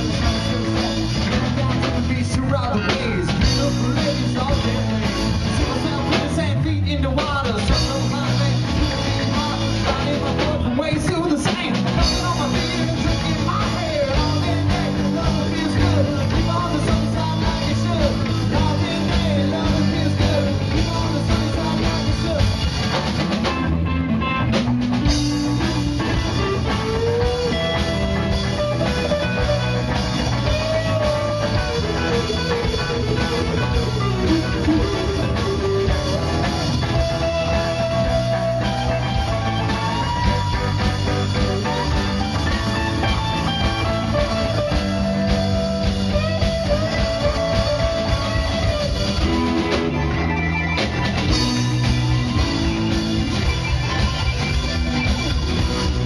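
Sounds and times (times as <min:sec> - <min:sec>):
electric guitar lead line: 0:00.0 - 0:56.0
rock band playing: 0:00.0 - 0:56.0.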